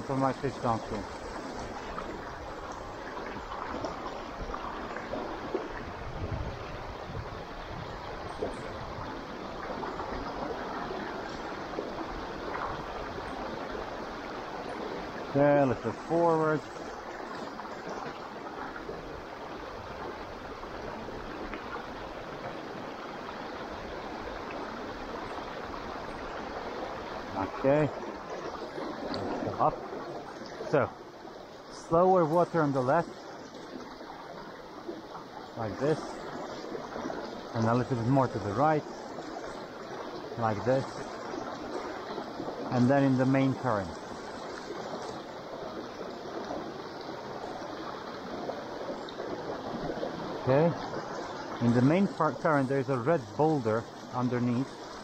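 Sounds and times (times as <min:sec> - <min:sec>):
river flowing over stones: 0:00.0 - 0:55.0
stream running over rocks: 0:00.0 - 0:55.0.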